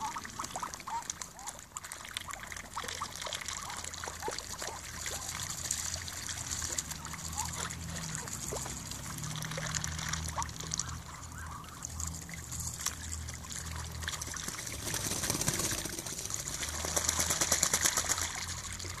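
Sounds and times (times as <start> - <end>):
ducks splashing in puddle: 0.0 - 19.0
water dribbling: 0.0 - 19.0.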